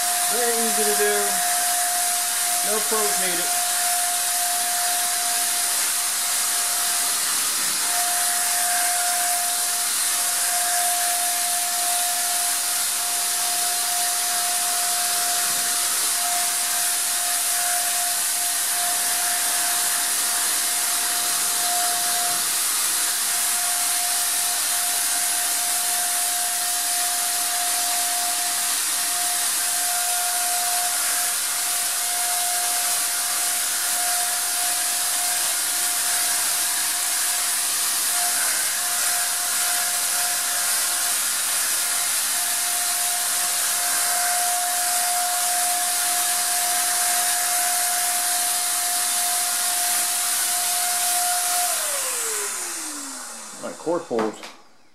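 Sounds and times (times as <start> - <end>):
paint sprayer hissing: 0.0 - 54.4
motor whine: 0.0 - 54.9.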